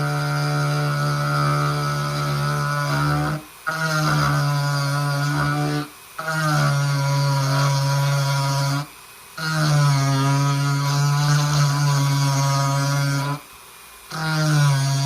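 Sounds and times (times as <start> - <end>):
rotary tool buzzing drone: 0.0 - 13.4.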